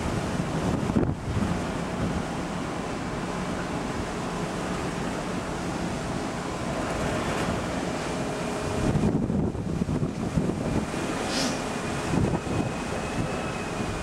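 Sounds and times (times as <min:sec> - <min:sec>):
rush of wind and sea: 0:00.0 - 0:14.0
wind buffeting microphone: 0:00.0 - 0:14.0.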